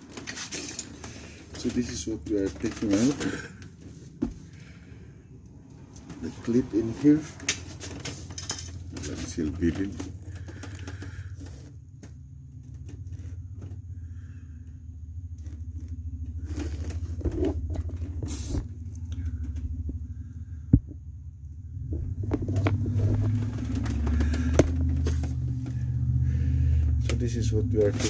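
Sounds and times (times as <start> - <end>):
low hum: 0.2 - 28.0.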